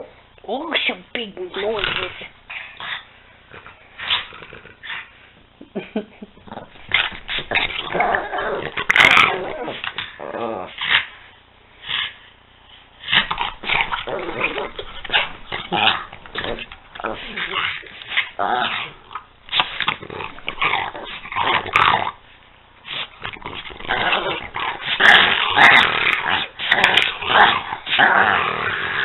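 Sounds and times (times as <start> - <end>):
dogs growling: 1.6 - 5.1, 6.4 - 11.2, 13.0 - 22.2, 22.8 - 29.0.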